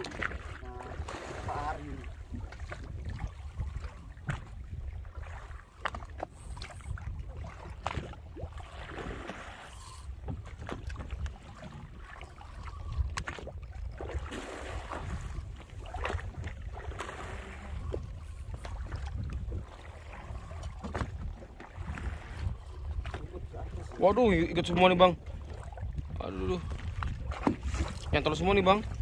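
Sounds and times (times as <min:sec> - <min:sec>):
sea and boat noise: 0:00.0 - 0:29.0
wind rumbling on microphone: 0:00.0 - 0:29.0.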